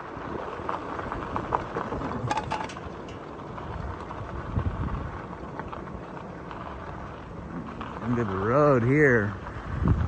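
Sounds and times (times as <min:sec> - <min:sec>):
rumbling road noise: 0:00.0 - 0:10.0
wind buffeting microphone: 0:00.1 - 0:10.0.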